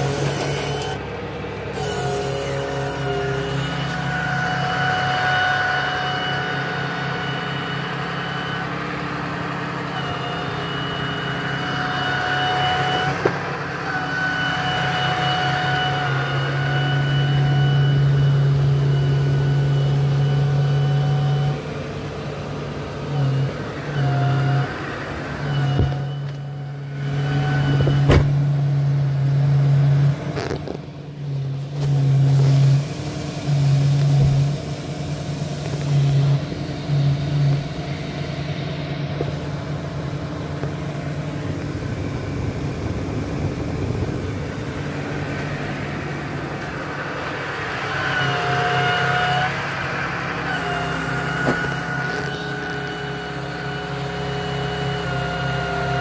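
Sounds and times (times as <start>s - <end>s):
diesel engine idling: 0.0s - 56.0s
steady whine: 0.0s - 56.0s.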